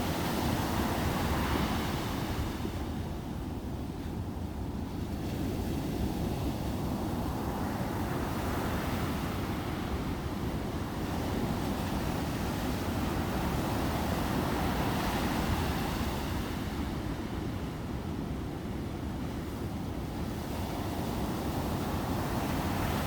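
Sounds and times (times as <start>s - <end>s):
sea waves breaking on a beach: 0.0s - 23.0s.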